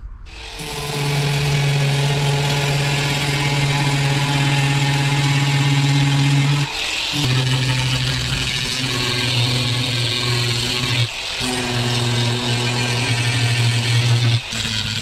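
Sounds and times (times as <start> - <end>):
angle grinder wire brush: 0.3 - 15.0.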